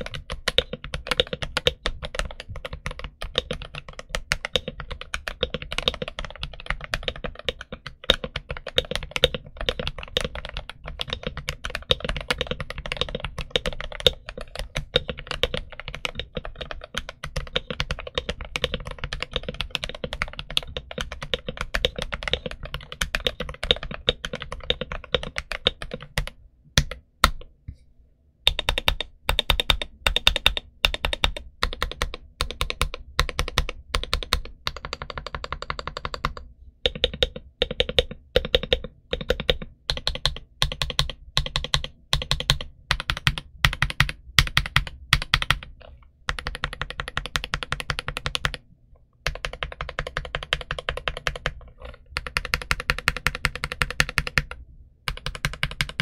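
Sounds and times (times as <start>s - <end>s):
fast typing on mechanical keyboard: 0.0s - 27.5s, 28.5s - 48.6s, 49.2s - 56.0s.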